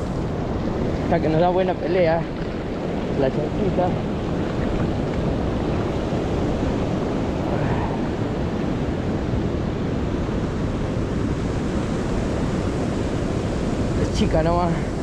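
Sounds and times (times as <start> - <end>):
sea rushing: 0.0 - 15.0
wind buffeting microphone: 0.0 - 15.0.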